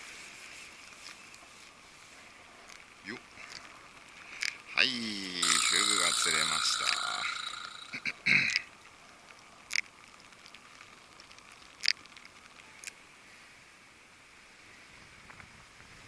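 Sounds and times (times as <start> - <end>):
wind and sea hiss: 0.0 - 8.9, 9.6 - 16.0.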